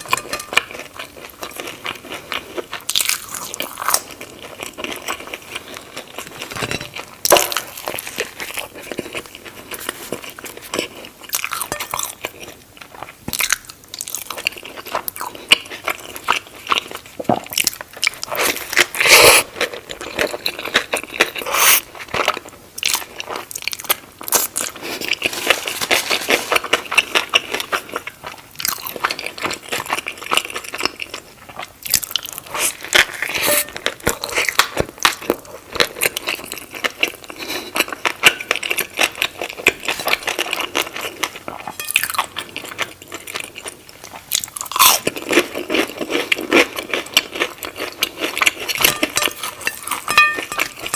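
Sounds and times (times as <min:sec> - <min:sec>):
crunchy chewing: 0:00.0 - 0:50.9.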